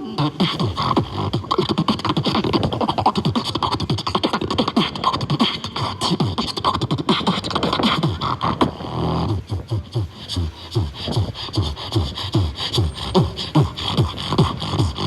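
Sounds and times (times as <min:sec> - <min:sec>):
beatboxing bass tones: 0:00.0 - 0:15.0
beatboxing mouth clicks: 0:00.0 - 0:15.0.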